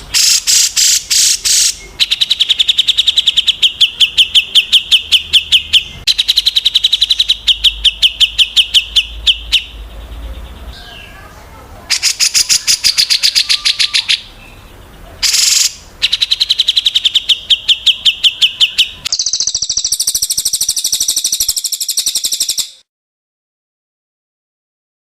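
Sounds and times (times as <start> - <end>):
songbirds calling: 0.0 - 22.8.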